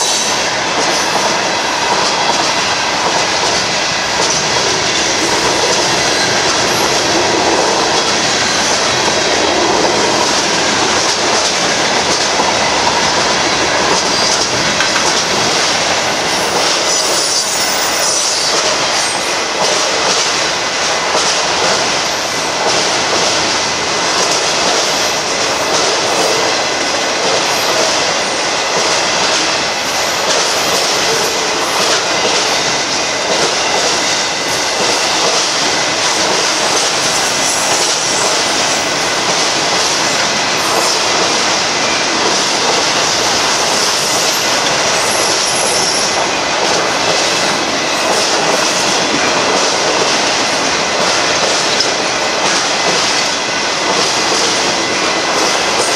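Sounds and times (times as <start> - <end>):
train wheels rolling on rails: 0.0 - 55.9.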